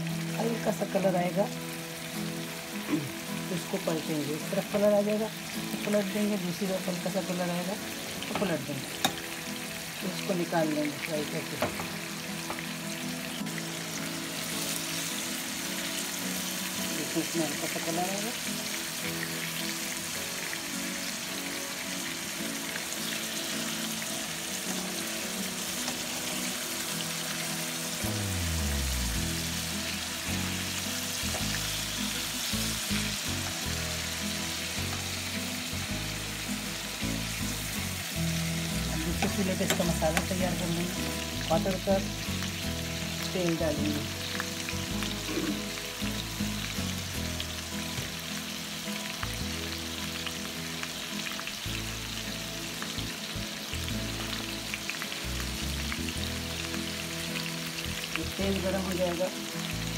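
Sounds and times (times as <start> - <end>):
background music: 0.0 - 59.9
fish sizzling in hot oil: 0.0 - 59.9.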